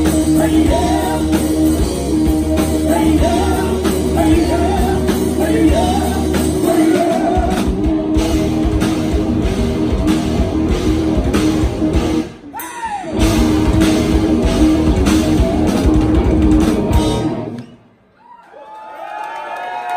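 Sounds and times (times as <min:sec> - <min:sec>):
bass guitar: 0:00.0 - 0:17.7
distorted electric guitars: 0:00.0 - 0:17.8
drum kit: 0:00.0 - 0:17.9.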